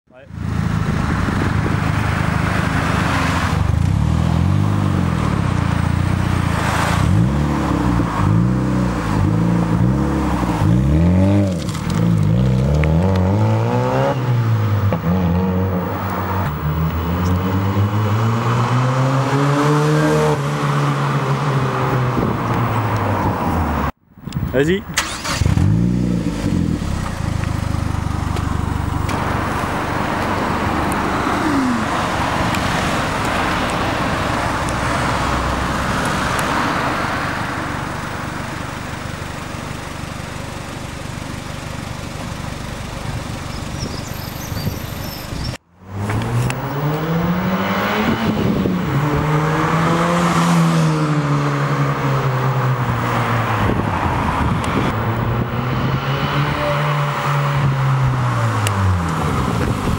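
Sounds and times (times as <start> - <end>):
car engine revving: 0.4 - 24.0, 24.9 - 38.9, 45.8 - 59.9.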